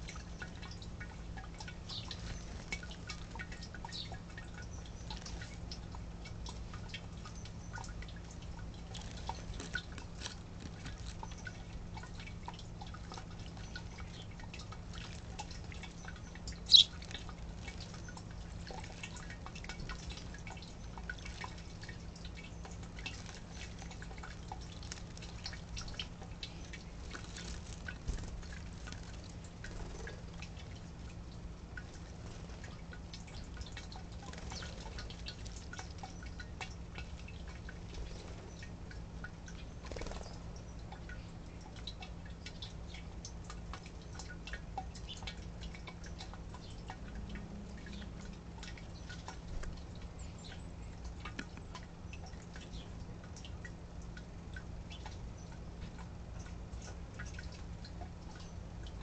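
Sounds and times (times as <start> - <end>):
steady low hum: 0.0 - 59.0
water splashing and dripping: 0.0 - 59.0.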